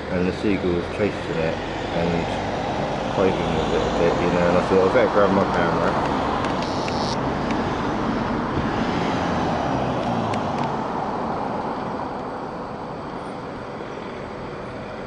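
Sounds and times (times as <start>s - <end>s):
traffic rushing past: 0.0s - 15.0s.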